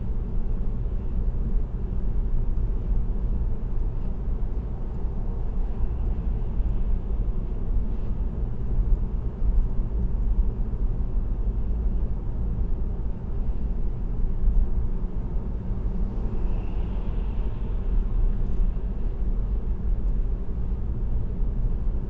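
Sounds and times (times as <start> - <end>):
car cruising on highway: 0.1 - 22.0.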